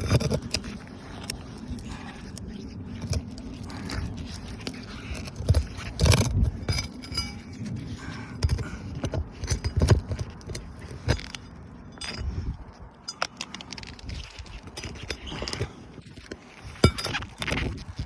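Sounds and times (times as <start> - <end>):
metal tools scraping roof shingles: 0.0 - 18.0.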